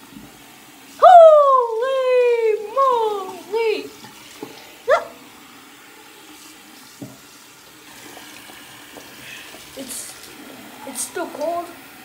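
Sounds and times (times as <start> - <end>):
faucet water splashing: 0.0 - 12.0.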